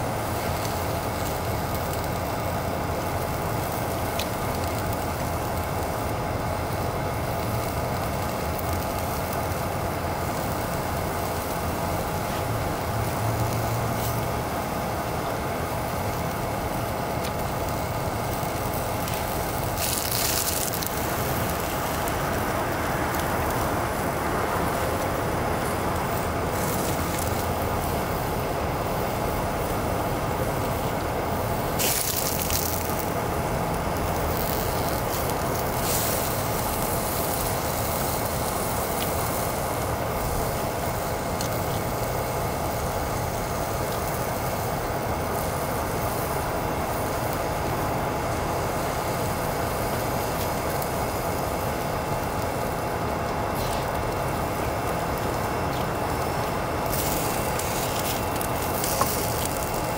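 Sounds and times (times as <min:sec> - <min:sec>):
gas stove burning: 0:00.0 - 0:59.9
sausages and fries sizzling: 0:00.0 - 0:59.9.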